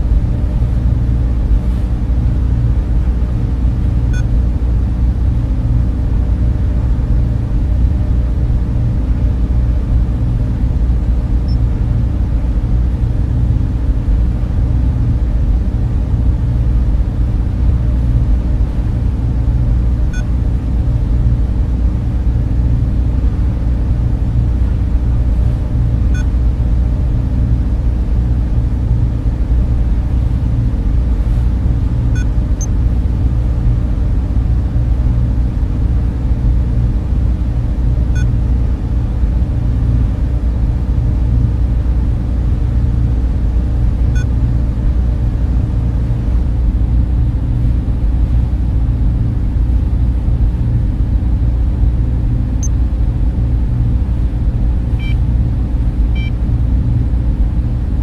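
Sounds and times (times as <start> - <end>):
cooling fans rumbling: 0.0 - 58.0.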